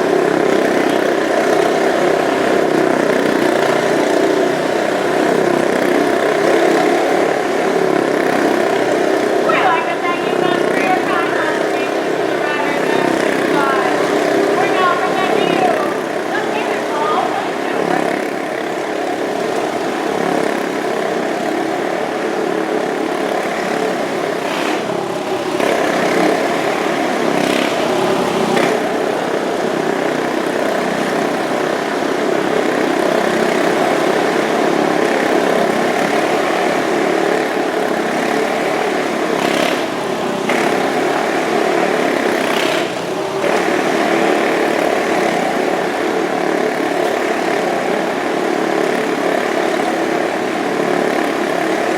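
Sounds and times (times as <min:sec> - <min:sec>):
motorcycle engines droning: 0:00.0 - 0:51.9.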